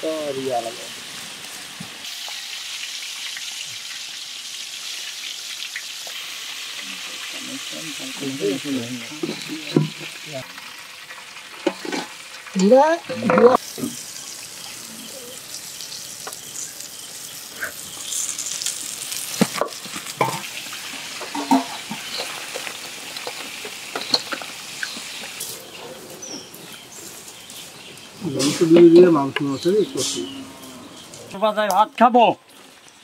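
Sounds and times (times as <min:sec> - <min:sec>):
chicken sizzling in hot oil: 0:00.0 - 0:31.6.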